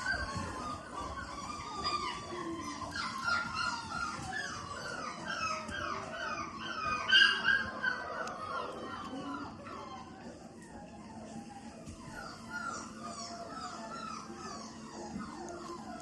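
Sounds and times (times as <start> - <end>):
puppies whining and yipping: 0.0 - 16.0.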